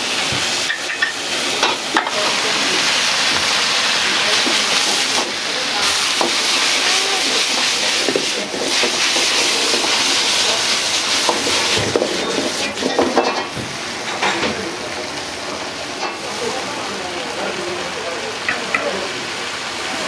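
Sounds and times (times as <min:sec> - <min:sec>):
noodles sizzling in a wok: 0:00.0 - 0:20.0.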